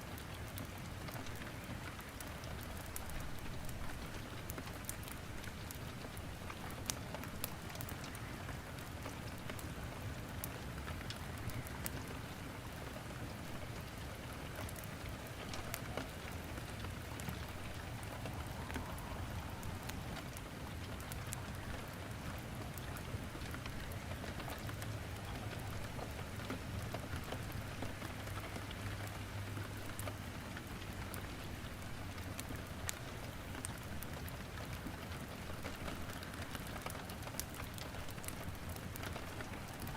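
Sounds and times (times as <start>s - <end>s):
steady rain: 0.0s - 39.9s
firewood crackling: 0.1s - 39.9s.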